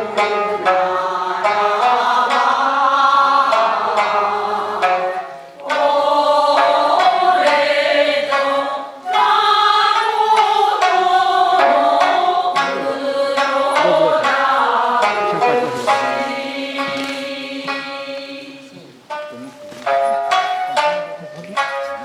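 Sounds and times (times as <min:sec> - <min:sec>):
group singing in unison: 0:00.0 - 0:19.0
plucked shamisen: 0:00.0 - 0:22.0.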